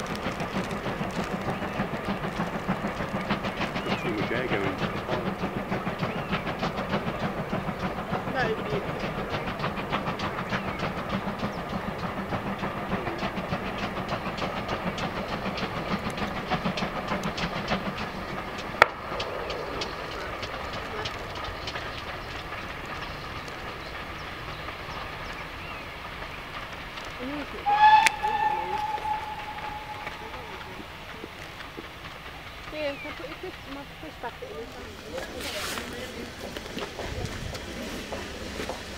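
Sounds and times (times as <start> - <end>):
steam train running: 0.0 - 38.9.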